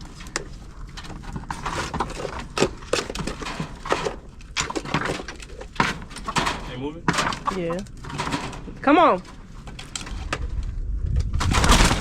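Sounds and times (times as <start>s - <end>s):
chickens rustling: 0.0s - 10.5s
knocks and scrapes in coop: 0.0s - 10.6s, 11.4s - 12.0s.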